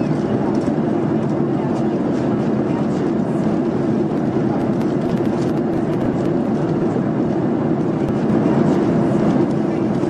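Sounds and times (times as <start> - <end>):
aircraft cabin engine hum: 0.0 - 10.0.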